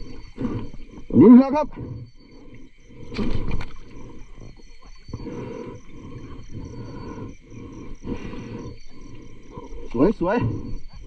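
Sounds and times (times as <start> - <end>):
breathing through a snorkel: 0.0 - 11.0.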